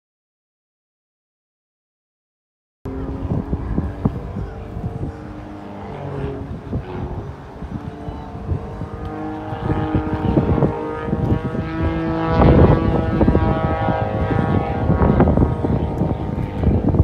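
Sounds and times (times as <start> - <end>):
aircraft engine passing: 2.9 - 17.0
wind buffeting microphone: 2.9 - 17.0.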